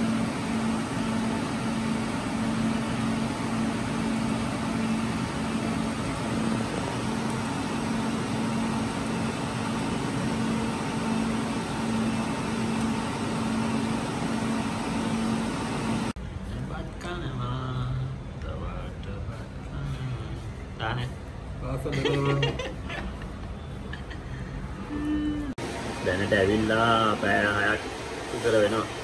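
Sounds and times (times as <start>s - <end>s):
server fans whooshing: 0.0s - 29.0s.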